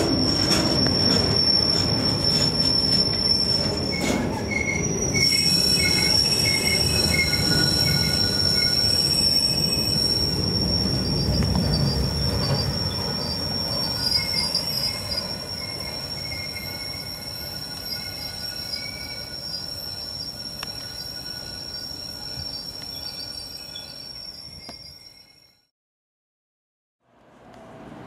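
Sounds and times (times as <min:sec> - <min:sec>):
train wheels rumbling on rails: 0:00.0 - 0:24.9
high-pitched wheel squeal: 0:00.0 - 0:25.6.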